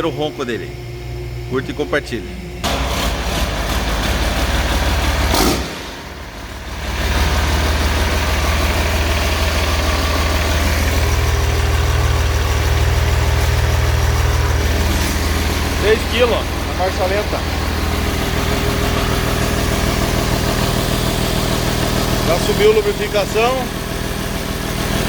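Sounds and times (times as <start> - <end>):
diesel engine starting and idling: 0.0 - 25.0.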